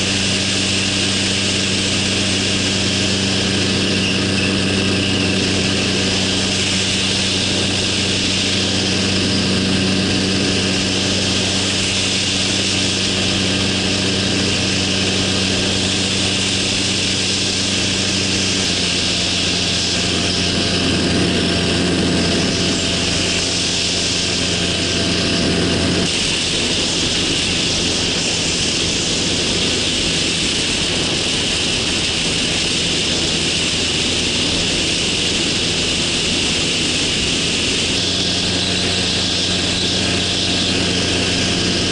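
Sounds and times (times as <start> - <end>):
small engine and propeller: 0.0 - 41.9
wind rush on microphone: 0.0 - 41.9.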